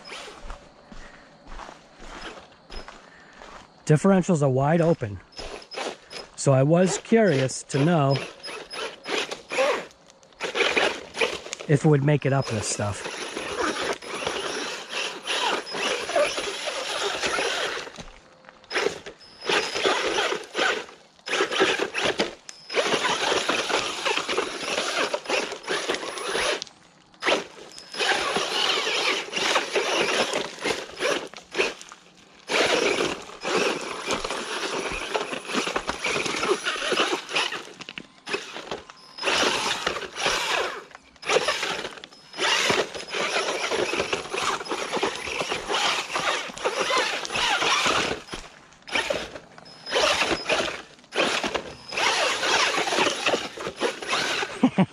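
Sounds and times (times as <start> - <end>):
rc car drivetrain whirring: 0.0 - 0.6, 1.5 - 3.6, 5.3 - 11.7, 12.3 - 18.1, 18.7 - 54.7
wheels scrabbling on gravel: 0.0 - 54.9.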